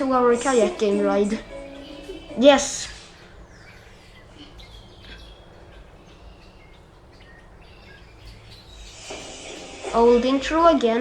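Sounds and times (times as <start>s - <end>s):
birds chirping faintly: 0.0s - 11.0s
low background hum: 0.0s - 11.0s.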